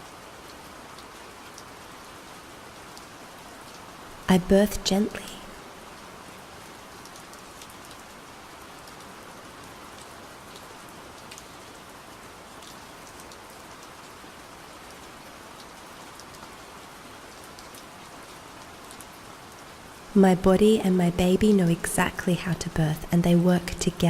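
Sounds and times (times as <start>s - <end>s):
gentle rain hiss: 0.0s - 24.0s.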